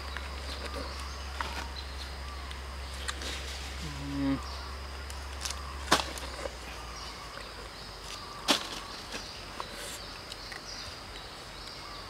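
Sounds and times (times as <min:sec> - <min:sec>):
insects humming: 0:00.0 - 0:12.0.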